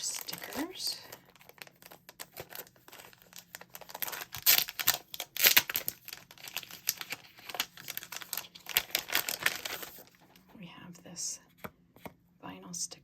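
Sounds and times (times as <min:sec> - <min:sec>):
sticker package crinkling: 0:00.0 - 0:10.5.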